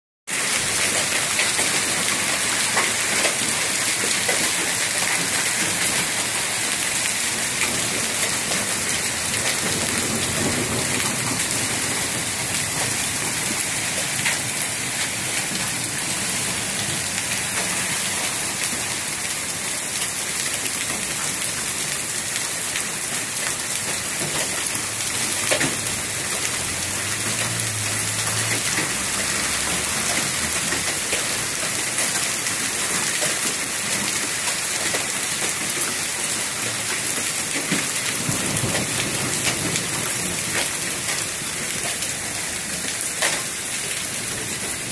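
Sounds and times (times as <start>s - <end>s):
sharp hail hits: 0.3s - 18.9s, 23.1s - 26.4s, 28.5s - 44.9s
hail and rain pattering: 0.3s - 44.9s.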